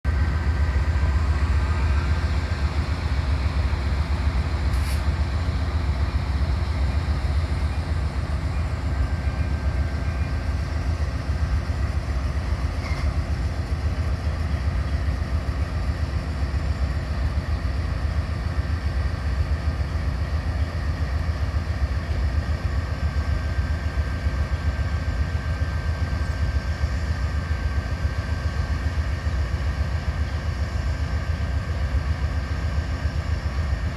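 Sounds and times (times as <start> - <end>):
freight train rumbling by: 0.0 - 33.9.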